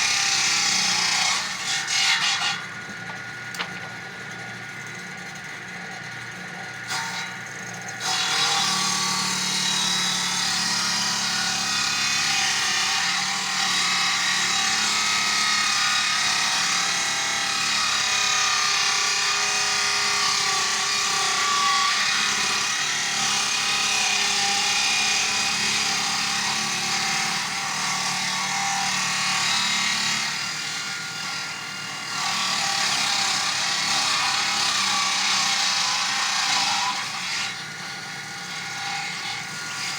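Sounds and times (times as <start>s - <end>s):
chainsaw cutting through wood: 0.0s - 4.0s, 7.9s - 39.9s.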